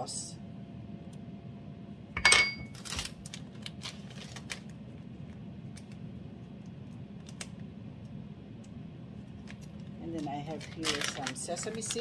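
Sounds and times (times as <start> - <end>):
air fryer humming: 0.0 - 12.0.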